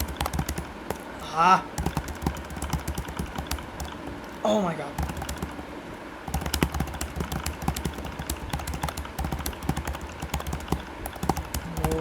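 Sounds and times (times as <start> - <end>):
fast keyboard typing: 0.0 - 4.2, 4.9 - 12.0
steady low hum: 0.0 - 12.0.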